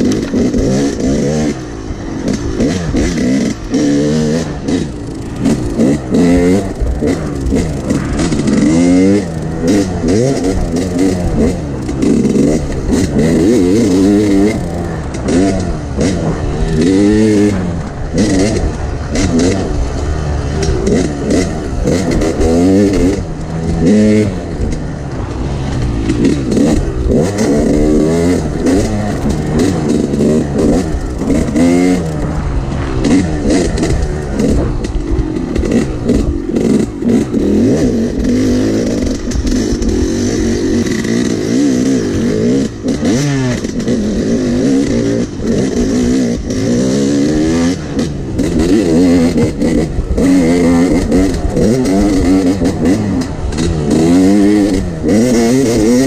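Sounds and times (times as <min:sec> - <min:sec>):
two-stroke dirt bike engine revving: 0:00.0 - 0:56.0.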